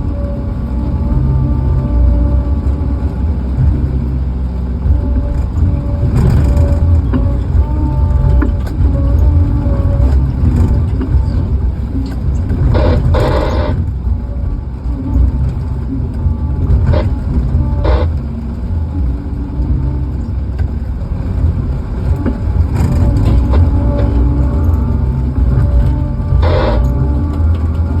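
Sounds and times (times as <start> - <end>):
vehicle engine rumbling: 0.0 - 28.0
knocks and clatters: 2.6 - 28.0.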